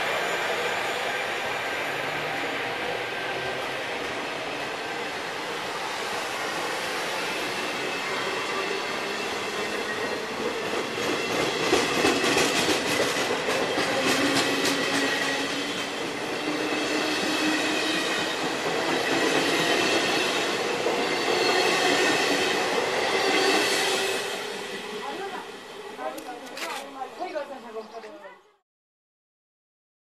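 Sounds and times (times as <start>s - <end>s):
train rolling rumble: 0.0s - 26.2s.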